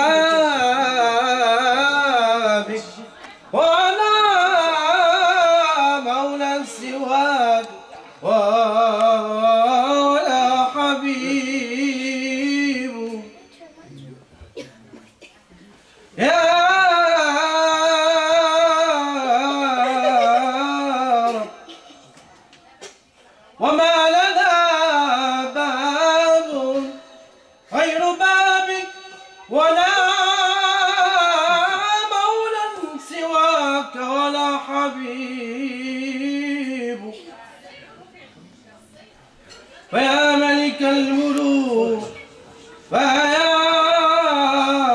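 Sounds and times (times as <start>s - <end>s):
man singing unaccompanied: 0.0s - 13.5s, 16.2s - 21.9s, 23.6s - 37.3s, 39.9s - 44.9s.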